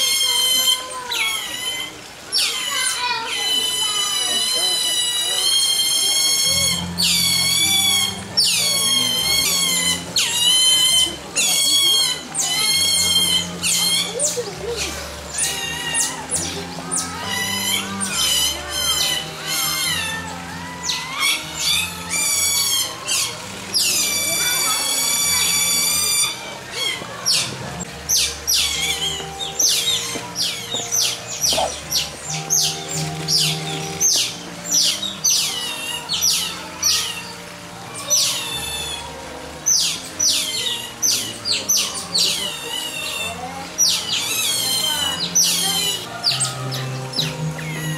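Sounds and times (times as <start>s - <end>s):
otters squealing: 0.0s - 47.9s.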